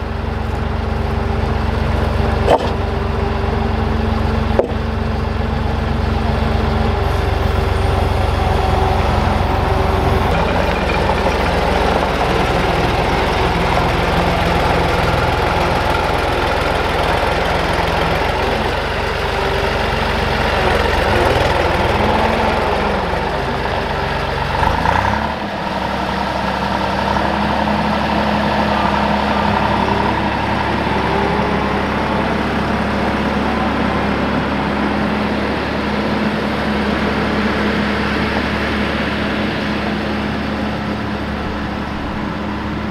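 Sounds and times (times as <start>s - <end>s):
diesel loader engine running: 0.0s - 42.9s.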